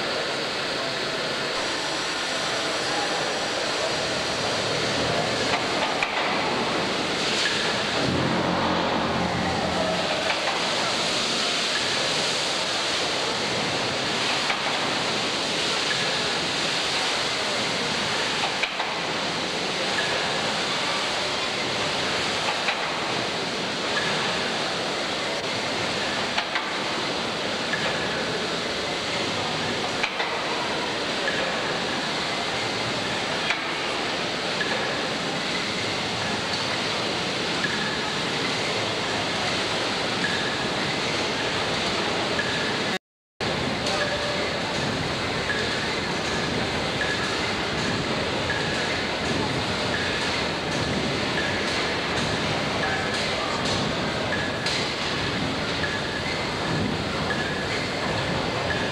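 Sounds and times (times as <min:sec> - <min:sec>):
steam engine rushing din: 0:00.0 - 0:58.9.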